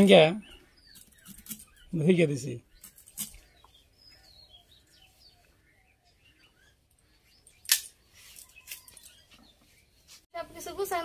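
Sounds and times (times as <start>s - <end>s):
faint bird chirps: 0.0s - 10.2s.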